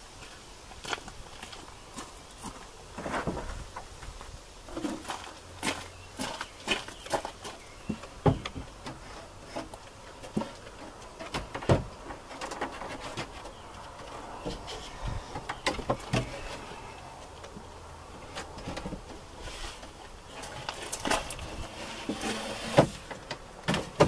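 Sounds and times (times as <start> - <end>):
light scraping of wood: 0.2 - 24.0.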